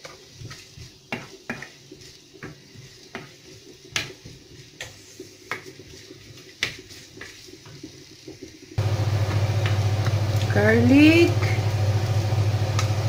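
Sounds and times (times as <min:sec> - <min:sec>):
onion frying in oil: 0:00.0 - 0:13.0.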